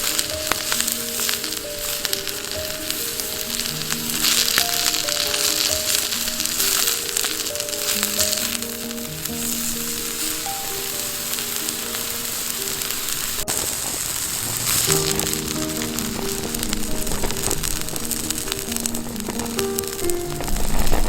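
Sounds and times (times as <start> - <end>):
food sizzling in a pan: 0.0 - 21.0
soft background music: 0.0 - 21.0.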